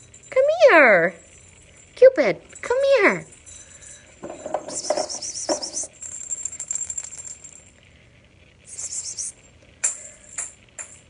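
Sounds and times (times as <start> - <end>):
small bells jingling: 0.0 - 7.8, 8.7 - 11.0.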